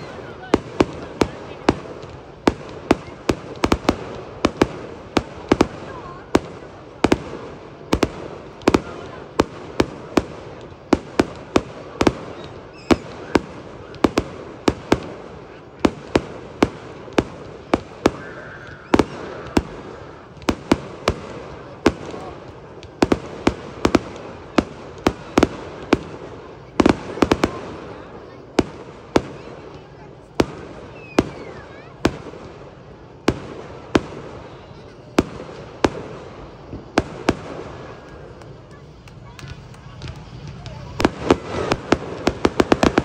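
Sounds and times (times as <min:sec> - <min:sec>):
background murmur: 0:00.0 - 0:43.0
fireworks bangs: 0:00.0 - 0:43.0.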